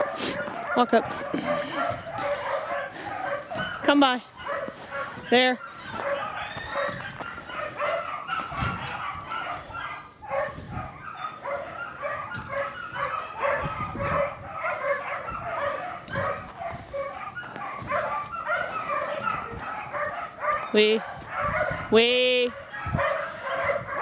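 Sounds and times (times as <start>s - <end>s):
dog barking: 0.0s - 24.0s.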